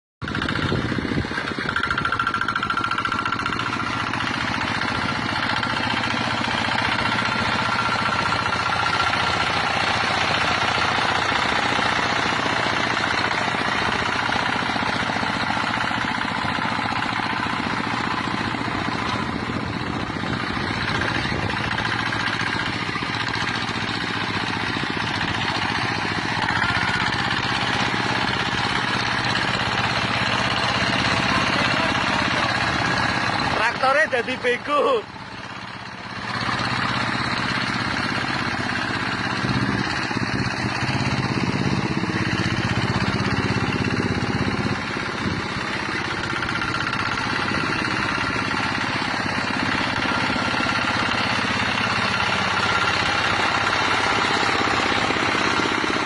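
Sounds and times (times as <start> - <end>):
tractor engine knocking: 0.2 - 56.0.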